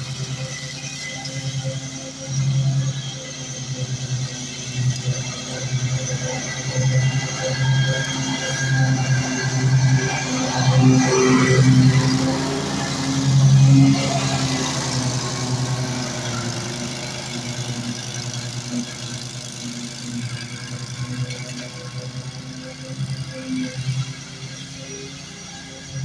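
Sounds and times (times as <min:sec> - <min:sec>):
riding mower engine running: 0:00.0 - 0:26.0.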